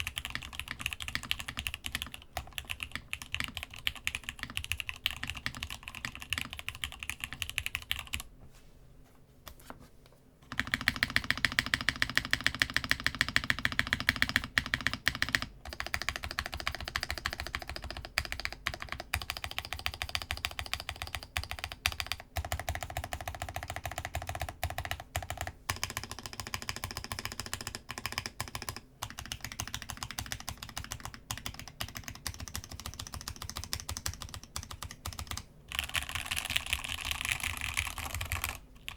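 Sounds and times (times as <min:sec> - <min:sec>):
fast typing on mechanical keyboard: 0:00.0 - 0:08.2, 0:10.5 - 0:38.9.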